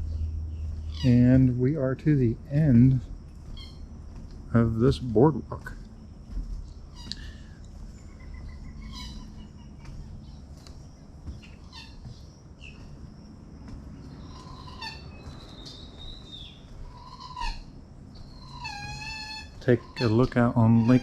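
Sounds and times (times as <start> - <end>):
birds chirping: 0.0 - 21.0
low steady rumble: 0.0 - 21.0.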